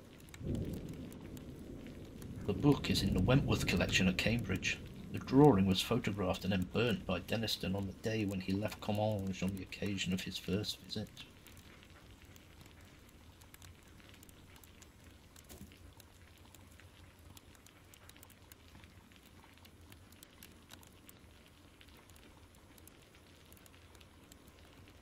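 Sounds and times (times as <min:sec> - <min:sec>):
fire pops and snaps: 0:00.0 - 0:25.0
log fire crackling: 0:00.0 - 0:25.0
rain hissing: 0:00.0 - 0:25.0.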